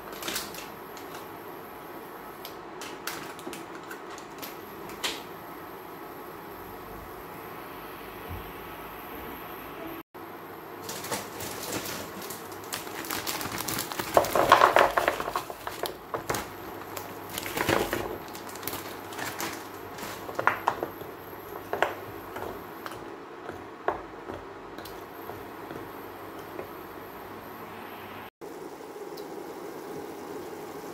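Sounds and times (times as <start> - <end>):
steady frying hiss: 0.0 - 30.9.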